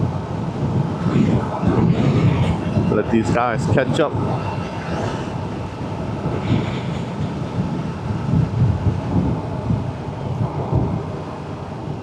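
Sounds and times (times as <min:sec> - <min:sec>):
motorcycle engine drone: 0:00.0 - 0:12.0
wind buffeting microphone: 0:00.0 - 0:12.0.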